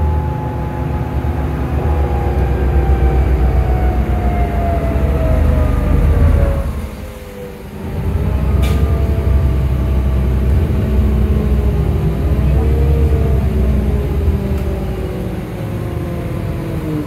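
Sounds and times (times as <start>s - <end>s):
bus engine rumble: 0.0s - 17.0s
drivetrain whine: 0.0s - 17.0s.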